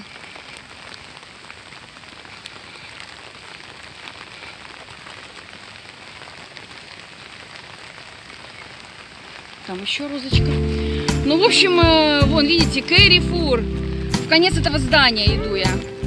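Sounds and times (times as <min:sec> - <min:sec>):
rain falling on wet paving: 0:00.0 - 0:16.0
raindrop ticks: 0:00.0 - 0:16.0.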